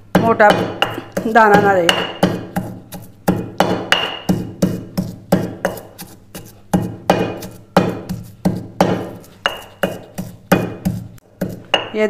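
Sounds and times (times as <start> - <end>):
pestle pounding in stone mortar: 0.0 - 12.0.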